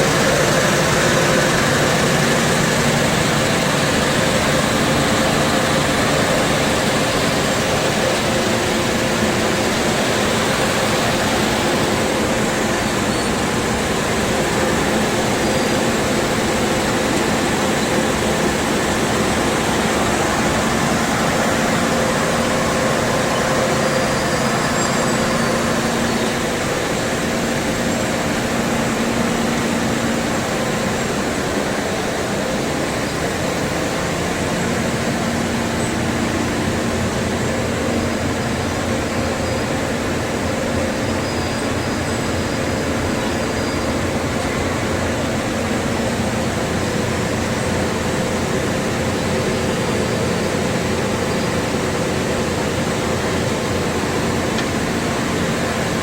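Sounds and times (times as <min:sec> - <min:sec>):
constant machine hum: 0:00.0 - 0:56.0
machinery running: 0:00.0 - 0:56.0.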